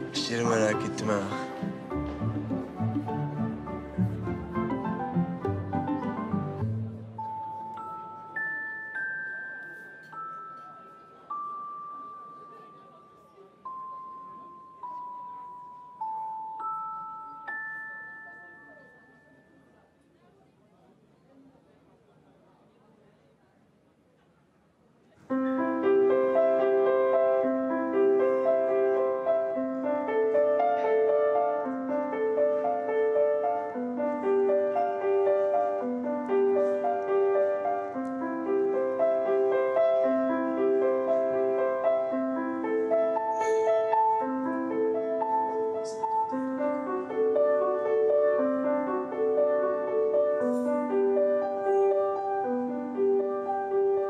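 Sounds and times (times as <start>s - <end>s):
piano piece: 0.0s - 19.5s, 25.3s - 54.0s.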